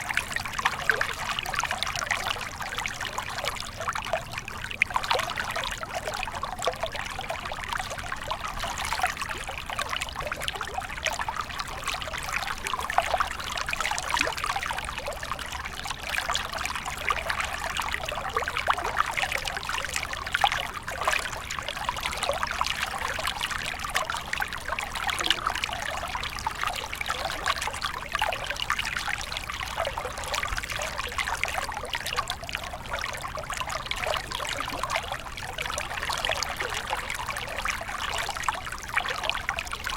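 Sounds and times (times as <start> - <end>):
stream water babbling over stones: 0.0 - 39.9.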